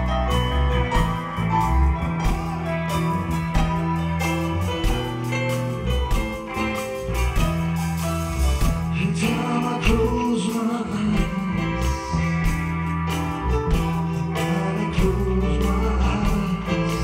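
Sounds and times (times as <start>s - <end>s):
live band playing soul rock: 0.0s - 17.0s.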